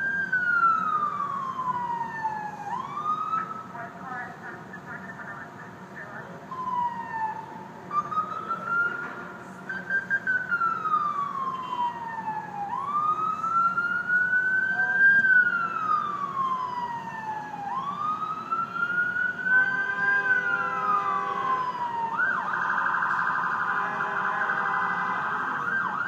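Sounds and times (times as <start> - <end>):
ambulance siren wailing: 0.0 - 26.0
city traffic rumble: 0.0 - 26.0.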